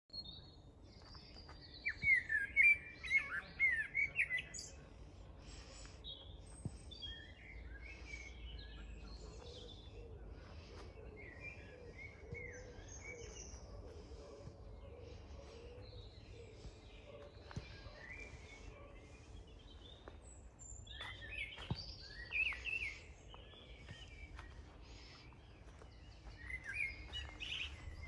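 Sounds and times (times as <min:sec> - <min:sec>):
songbirds singing: 0:00.1 - 0:28.0.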